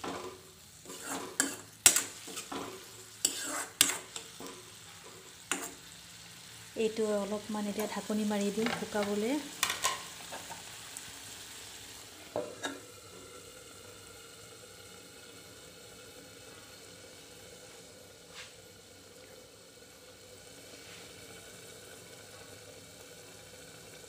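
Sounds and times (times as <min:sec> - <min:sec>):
food sizzling faintly in a pan: 0:00.0 - 0:24.0.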